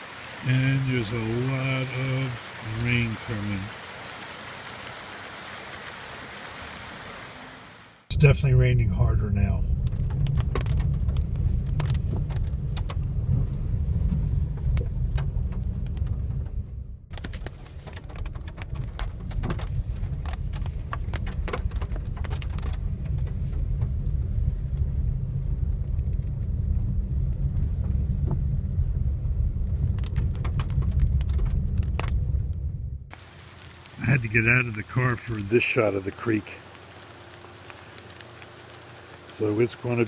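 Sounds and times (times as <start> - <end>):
rain drips knocking on roof: 0.0 - 7.2, 9.1 - 26.5, 27.1 - 32.4, 33.1 - 40.0
car cabin road rumble: 0.0 - 40.0.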